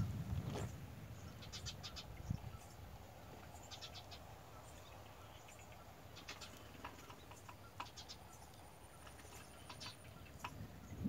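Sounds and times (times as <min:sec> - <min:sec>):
faint bird chirps: 0:00.6 - 0:11.0.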